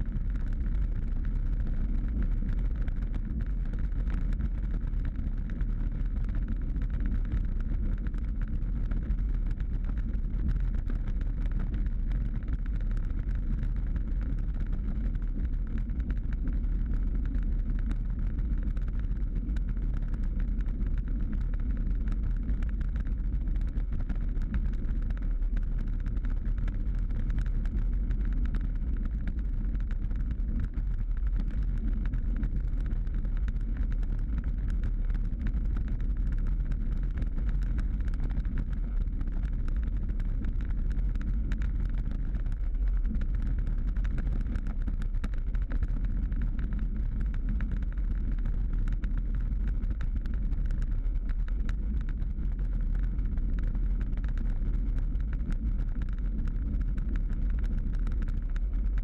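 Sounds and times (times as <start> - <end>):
wind and tyre rumble: 0.0 - 59.0.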